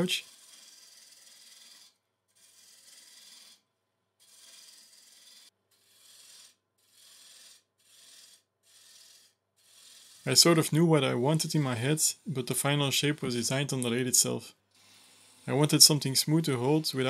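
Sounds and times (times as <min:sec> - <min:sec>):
gouge scraping spinning wood: 0:00.0 - 0:12.0, 0:14.8 - 0:17.0.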